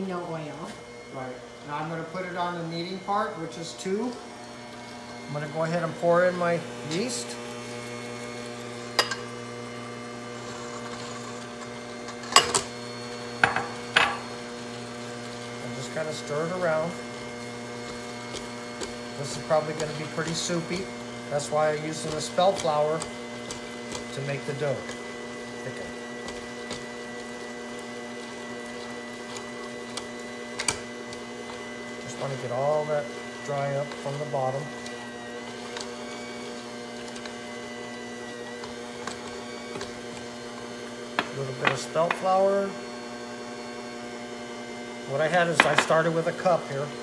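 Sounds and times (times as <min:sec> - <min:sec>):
stand mixer motor hum: 0:00.0 - 0:47.0.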